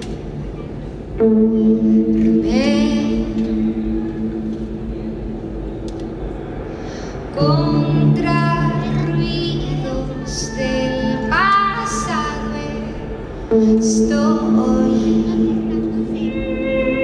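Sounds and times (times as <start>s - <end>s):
sliding synth melody: 0.0s - 17.0s
sustained synthesizer chords: 0.0s - 17.0s.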